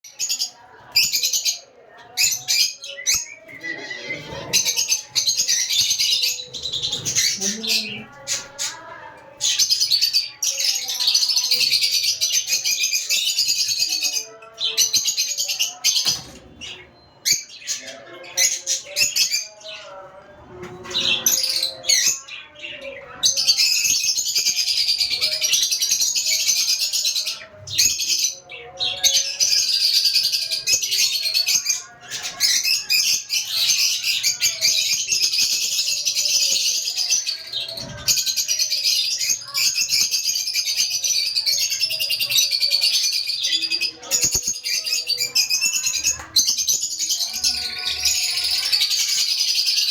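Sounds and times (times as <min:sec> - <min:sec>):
birds chattering and chirping: 0:00.0 - 0:49.9.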